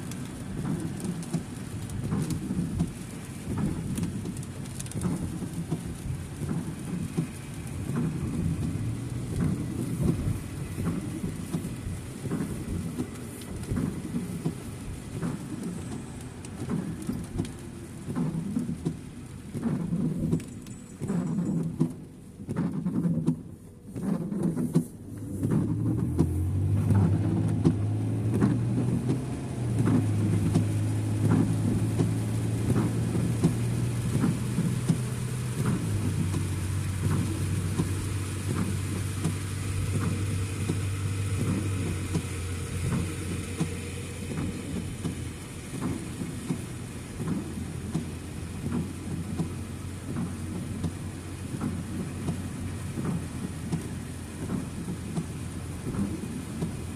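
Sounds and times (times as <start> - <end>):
car engine hum: 0.0 - 56.9
rain ticking on car: 0.0 - 56.9
road noise on wet road: 0.0 - 56.9.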